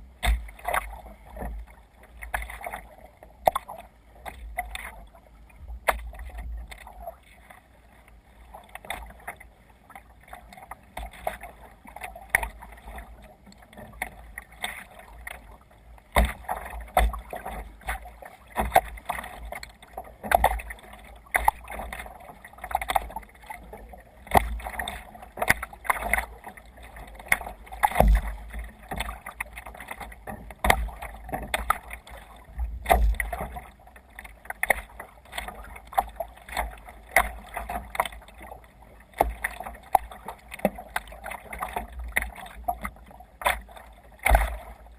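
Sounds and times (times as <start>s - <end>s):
water splashing around kayak: 0.0s - 44.9s.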